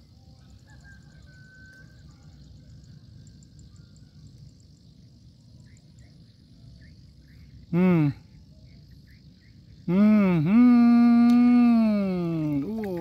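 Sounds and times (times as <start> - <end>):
insect ticking: 1.7 - 13.0.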